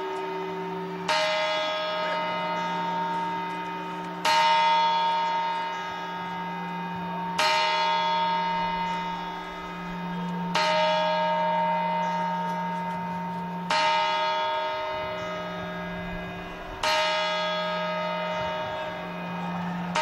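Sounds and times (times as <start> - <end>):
clock bell striking: 0.0 - 20.0.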